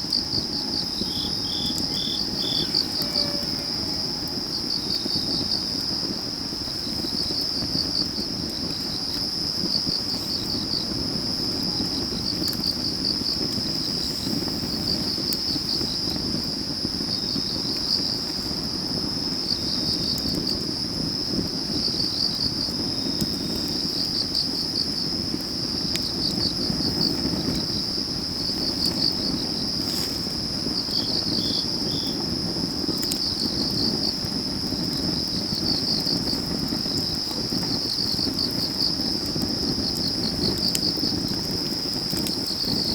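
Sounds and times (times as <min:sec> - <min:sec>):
crickets trilling: 0:00.0 - 0:42.9
log fire crackling: 0:00.0 - 0:42.9.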